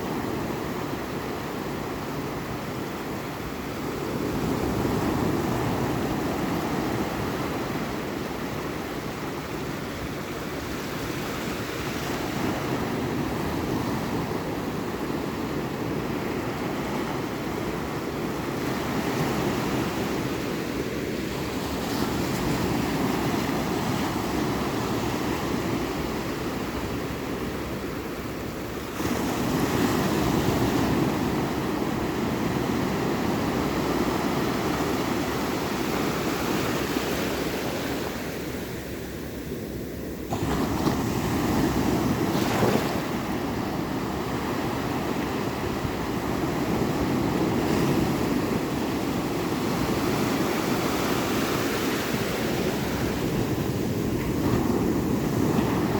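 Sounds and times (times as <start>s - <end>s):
ocean waves washing onto shore: 0.0s - 55.9s.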